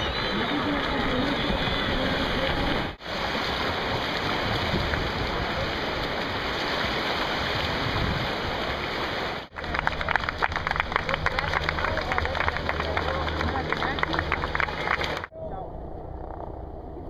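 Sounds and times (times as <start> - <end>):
swimmers splashing in seawater: 0.0 - 15.3.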